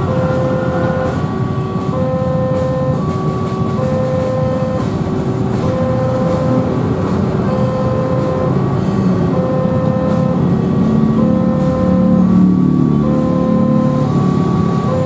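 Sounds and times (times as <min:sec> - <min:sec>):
level crossing alarm two tones: 0:00.0 - 0:15.0
road traffic rumble: 0:00.0 - 0:15.0.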